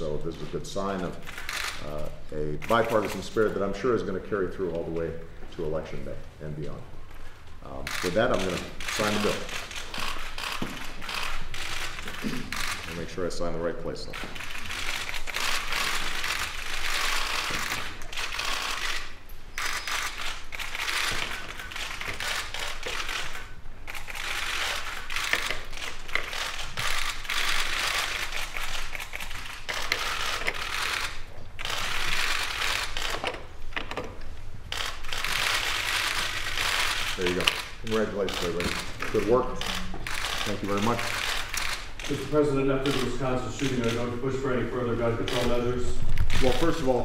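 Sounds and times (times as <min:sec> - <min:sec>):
camera shutters clicking: 0:01.2 - 0:02.0, 0:02.6 - 0:03.6, 0:07.7 - 0:13.1, 0:14.1 - 0:44.2, 0:45.2 - 0:46.9.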